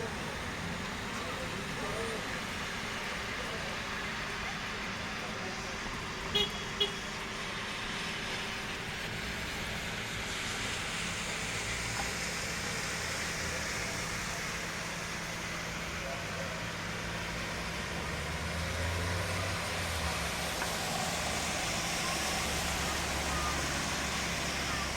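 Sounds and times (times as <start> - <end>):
steady rain falling: 0.0 - 24.9.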